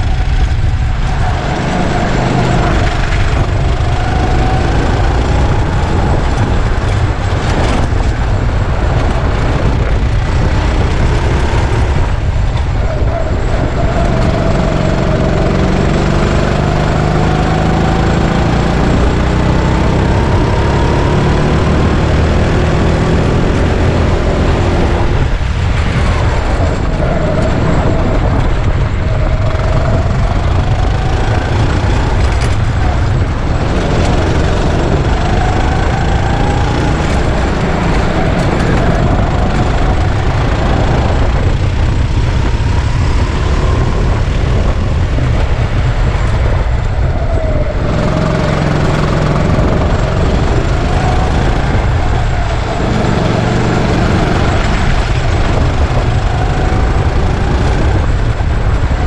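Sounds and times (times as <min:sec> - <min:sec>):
go-kart engine accelerating: 0:00.0 - 0:59.0
heavy low rumble: 0:00.0 - 0:59.0.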